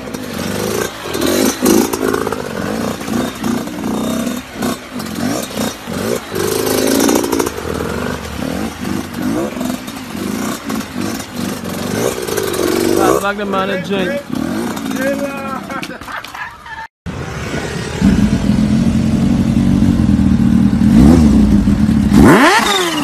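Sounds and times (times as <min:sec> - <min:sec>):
motorcycle engine revving: 0:00.0 - 0:15.9, 0:17.1 - 0:23.0.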